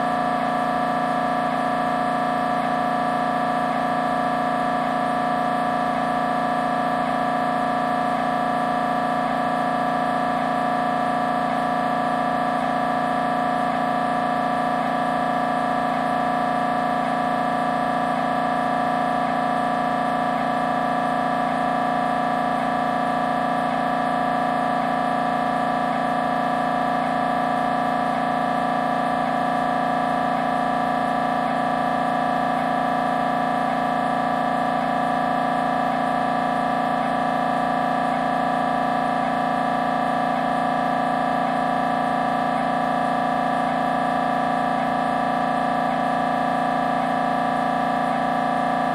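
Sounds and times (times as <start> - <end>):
mri scanner buzzing: 0.0 - 48.9.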